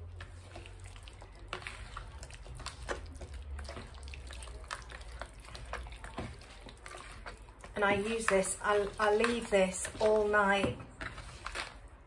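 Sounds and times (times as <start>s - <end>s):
hands squelching in marinade: 0.2s - 10.3s.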